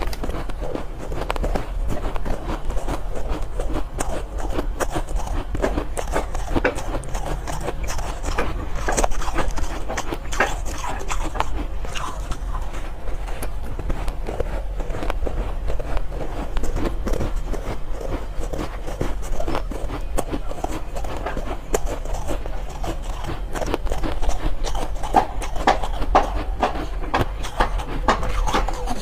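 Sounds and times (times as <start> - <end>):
chewing ice crunches: 0.0 - 29.0
low hum: 0.0 - 29.0.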